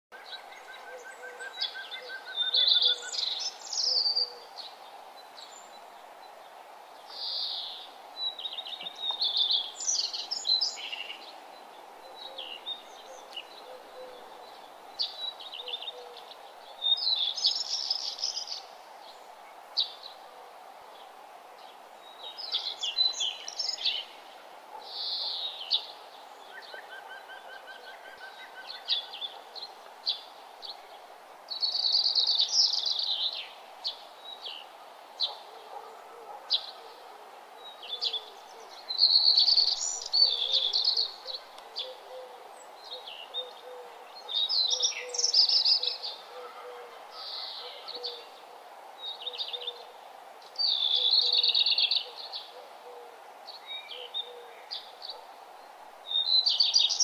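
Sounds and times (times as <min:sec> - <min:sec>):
birds singing and chirping: 0:00.1 - 0:06.3, 0:07.0 - 0:20.3, 0:21.0 - 0:55.3, 0:56.1 - 0:57.0
steady background hiss: 0:00.2 - 0:57.0.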